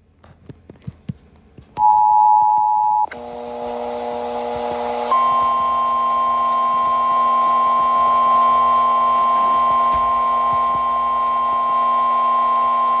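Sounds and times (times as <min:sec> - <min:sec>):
emergency alert tones: 0:01.8 - 0:13.0.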